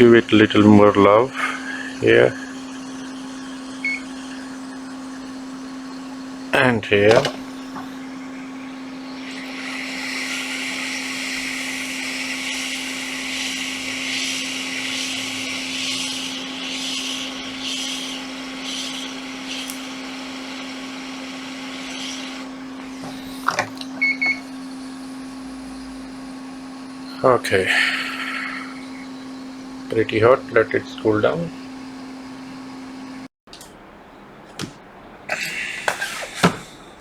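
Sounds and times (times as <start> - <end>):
hot air station hissing: 0.0 - 33.3, 35.3 - 37.0
constant low hum: 0.0 - 37.0.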